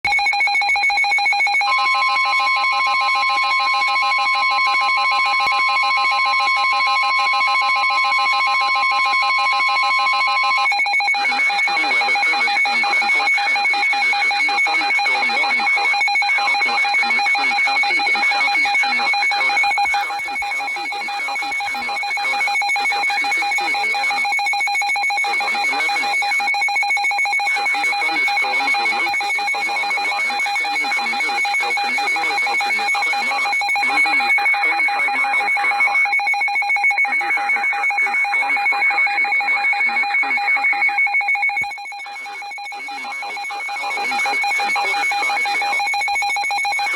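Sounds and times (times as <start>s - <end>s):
rapidly pulsing alarm beep: 0.1s - 46.9s.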